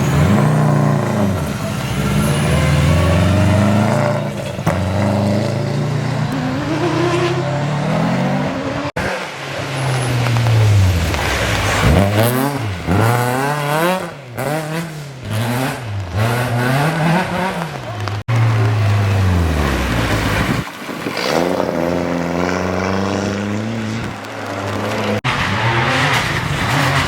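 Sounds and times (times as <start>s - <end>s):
car accelerating: 0.0s - 27.0s
rally car engine revving: 0.0s - 27.0s.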